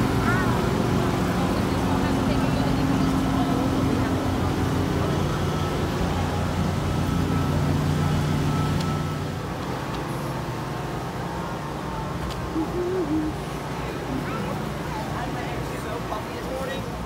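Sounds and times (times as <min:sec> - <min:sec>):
engine humming: 0:00.0 - 0:16.2
street noise: 0:00.0 - 0:17.0.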